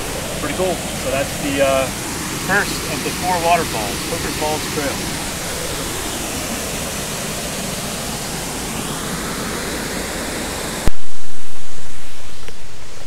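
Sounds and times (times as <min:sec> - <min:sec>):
waterfall rushing: 0:00.0 - 0:10.9.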